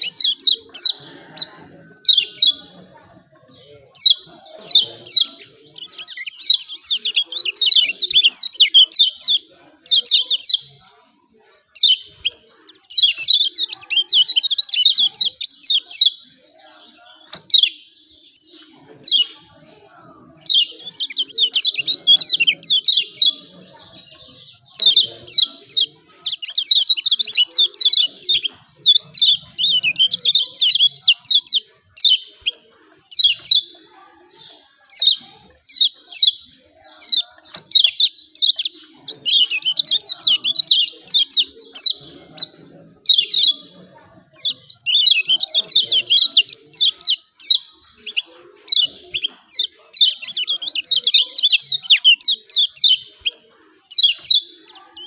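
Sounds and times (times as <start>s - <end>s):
bird chirping calls: 0.0s - 55.0s.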